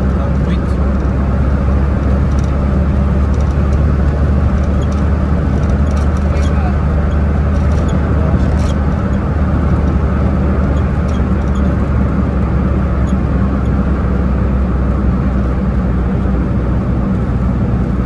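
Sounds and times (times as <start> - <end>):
car engine hum: 0.0 - 18.0
tyre and wind noise: 0.0 - 18.0.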